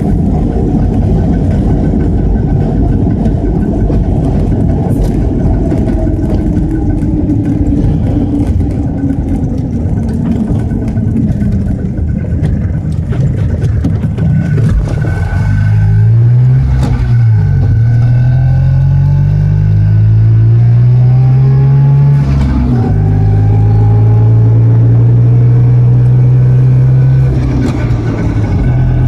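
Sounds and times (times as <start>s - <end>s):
small car engine from inside cabin: 0.0s - 12.4s, 14.4s - 29.0s.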